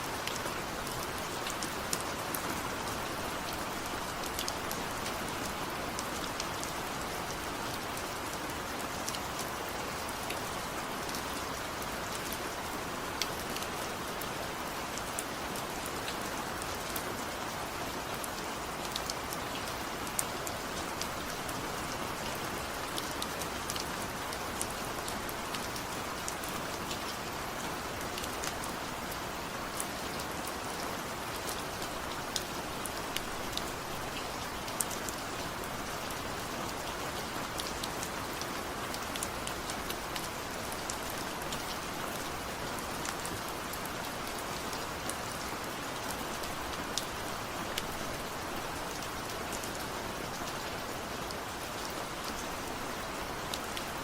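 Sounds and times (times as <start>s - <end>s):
raindrops ticking on a surface: 0.1s - 54.0s.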